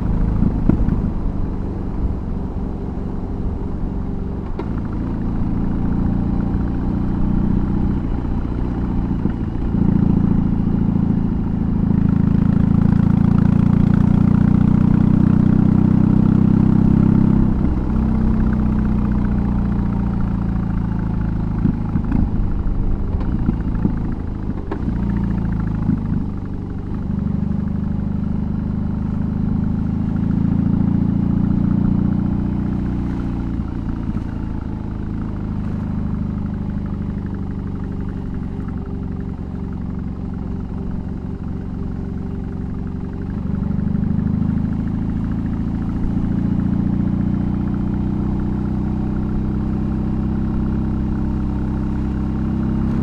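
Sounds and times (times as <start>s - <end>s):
motorcycle engine exhaust: 0.0s - 53.0s.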